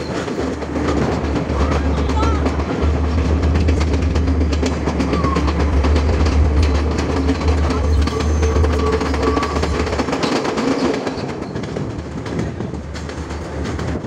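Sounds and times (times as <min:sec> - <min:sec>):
train rumbling in tunnel: 0:00.0 - 0:14.0
train wheels clicking on rails: 0:00.0 - 0:14.0.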